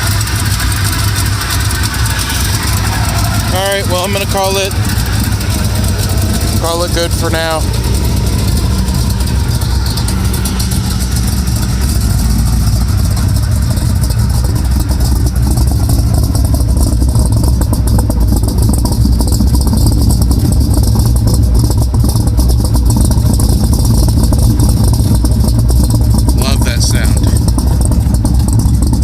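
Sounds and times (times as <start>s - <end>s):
engine exhaust rumble: 0.0s - 29.0s.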